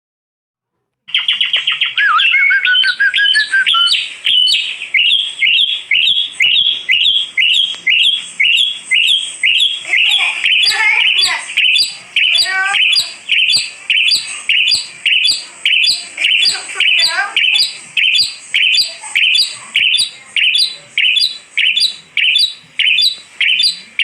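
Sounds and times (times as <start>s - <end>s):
starling calling sharp high note: 1.1s - 24.0s.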